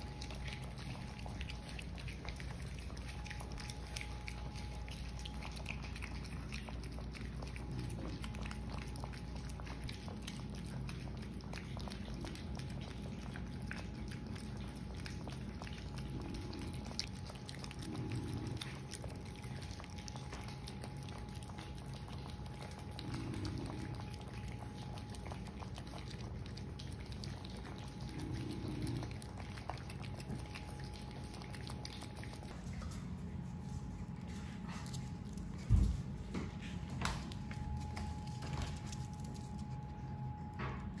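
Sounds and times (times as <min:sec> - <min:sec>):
puppies lapping and chewing food: 0:00.0 - 0:41.0.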